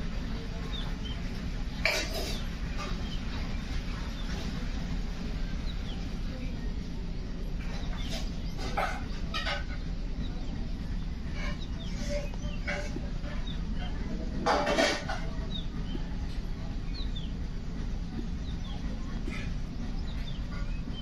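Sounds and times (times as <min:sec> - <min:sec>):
parakeets clucking calls: 0:00.0 - 0:21.0
steady low hum: 0:00.0 - 0:21.0.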